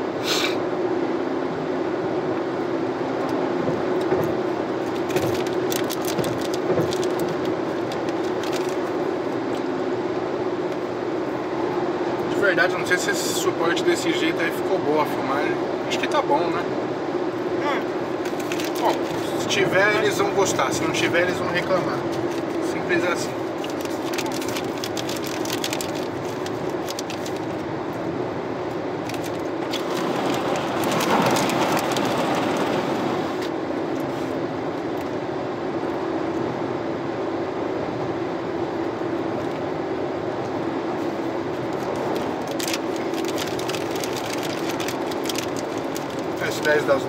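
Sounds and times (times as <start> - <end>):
low engine drone: 0.0 - 47.0.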